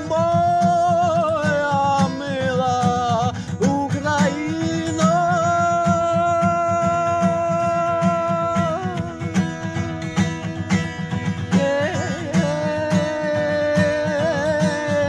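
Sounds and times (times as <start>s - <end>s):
acoustic guitar strumming: 0.0s - 15.0s
person singing with vibrato: 0.0s - 15.0s.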